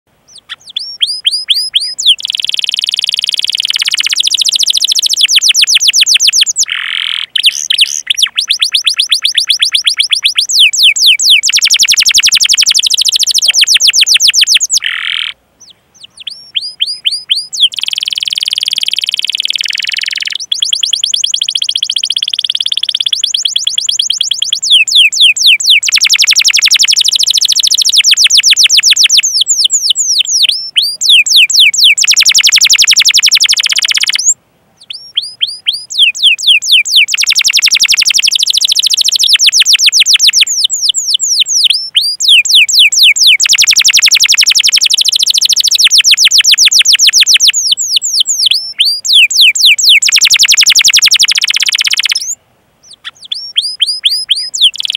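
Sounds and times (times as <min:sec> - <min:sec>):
canary singing trills: 0:00.3 - 0:54.9.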